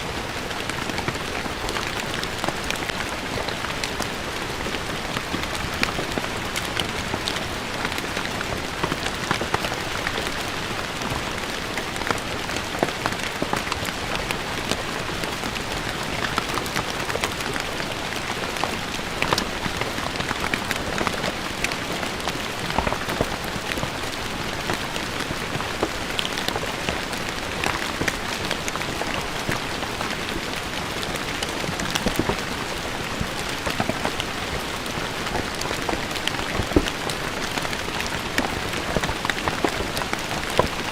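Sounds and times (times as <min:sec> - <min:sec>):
rain on stone paving: 0:00.0 - 0:40.9
raindrops spattering: 0:00.0 - 0:40.9.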